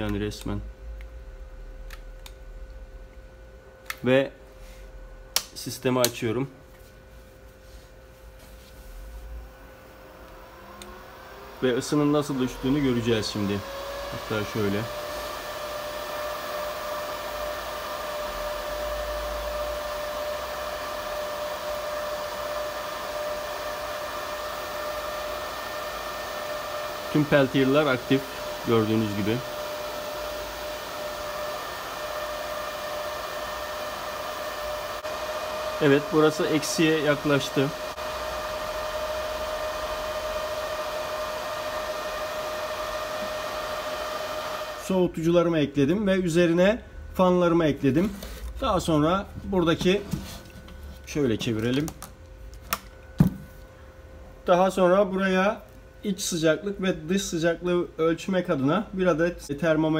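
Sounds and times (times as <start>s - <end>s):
electric fan whirring: 0.0s - 59.9s
mid-pitched whine: 0.0s - 59.9s.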